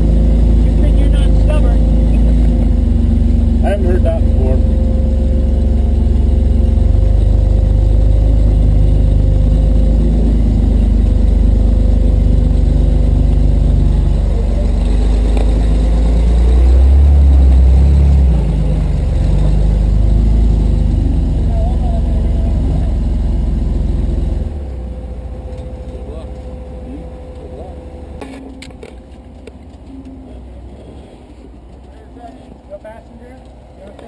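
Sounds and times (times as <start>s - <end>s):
off-road vehicle engine: 0.0s - 34.0s.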